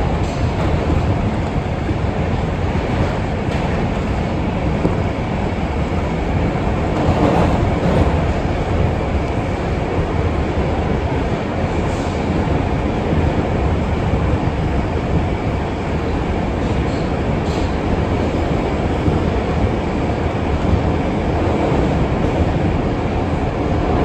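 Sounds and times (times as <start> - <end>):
subway train wheels on rails: 0.0 - 24.0.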